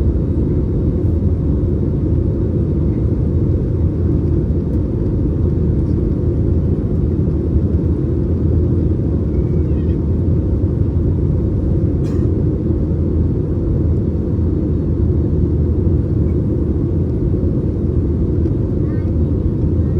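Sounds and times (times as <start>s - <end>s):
aircraft cabin engine rumble: 0.0s - 19.9s.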